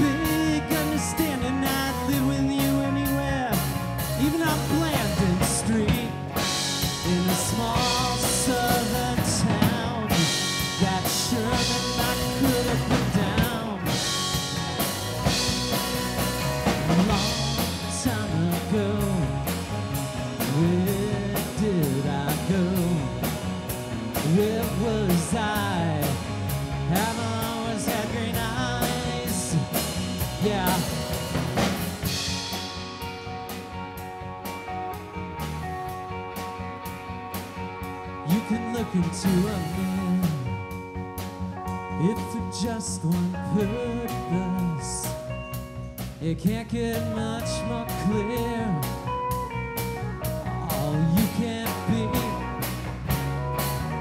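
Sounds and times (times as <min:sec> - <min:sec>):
drum kit with cymbals: 0:00.0 - 0:54.0
electric bass: 0:00.0 - 0:54.0
electric guitars: 0:00.0 - 0:54.0
sliding lead guitar line: 0:00.0 - 0:54.0.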